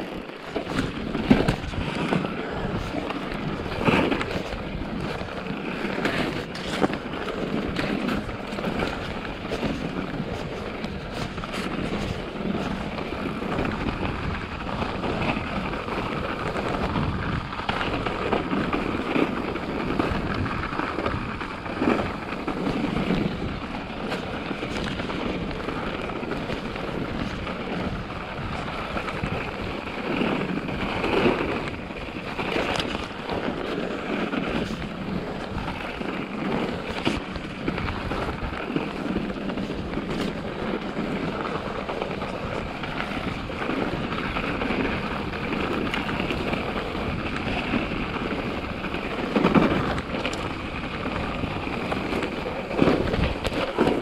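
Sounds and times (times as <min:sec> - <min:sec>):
bike knocking and rattling: 0:00.0 - 0:54.0
tyres on snow: 0:00.0 - 0:54.0
wind noise on microphone: 0:00.0 - 0:54.0.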